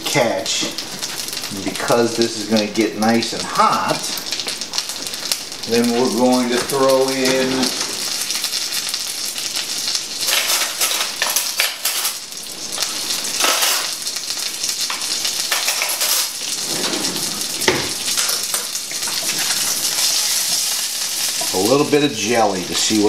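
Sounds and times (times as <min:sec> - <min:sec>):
sharp frying pops: 0:00.0 - 0:16.6, 0:17.4 - 0:23.0
chicken sizzling in a frying pan: 0:00.0 - 0:23.0.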